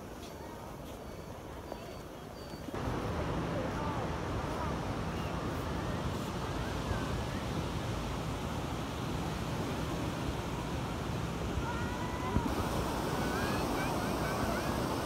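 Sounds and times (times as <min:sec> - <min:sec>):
faint distant voices: 0:00.0 - 0:15.0
sea surf: 0:02.8 - 0:15.0
wind buffeting microphone: 0:02.8 - 0:15.0.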